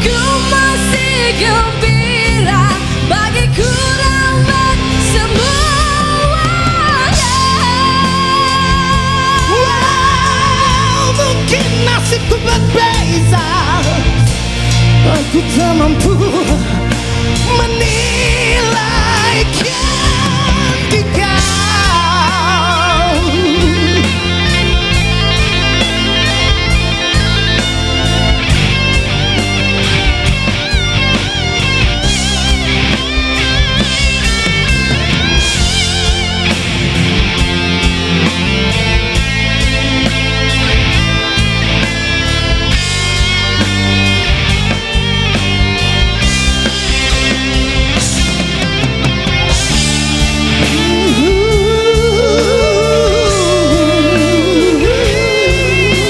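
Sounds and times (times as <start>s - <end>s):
bass and drums: 0.0s - 56.0s
electric guitar lead: 0.0s - 56.0s.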